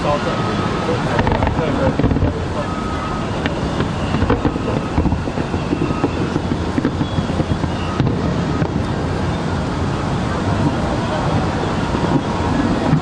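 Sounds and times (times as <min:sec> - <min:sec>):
fireworks low rumble: 0:00.0 - 0:13.0
wind buffeting microphone: 0:00.0 - 0:13.0
faint fireworks cracks: 0:00.9 - 0:09.4, 0:10.4 - 0:13.0.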